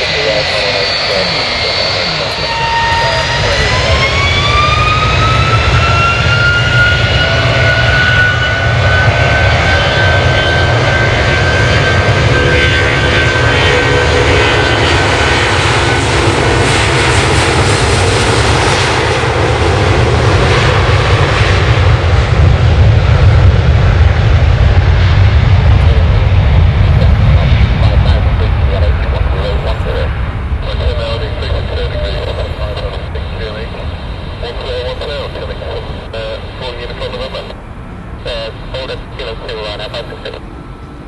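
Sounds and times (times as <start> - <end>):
jet engine low rumble: 0.0 - 41.0
jet engine whine: 0.0 - 41.0.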